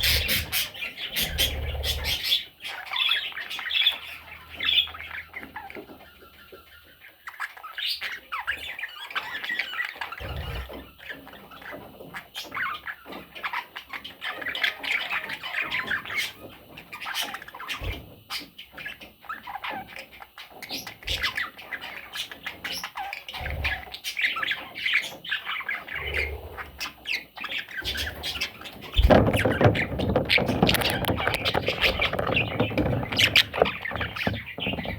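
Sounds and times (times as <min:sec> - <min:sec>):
budgerigar chattering and warbling: 0:00.0 - 0:34.9.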